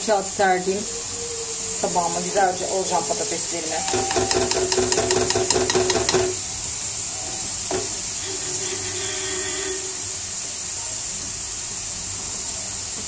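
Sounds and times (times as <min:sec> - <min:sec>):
potatoes sizzling in hot oil: 0:01.8 - 0:13.0.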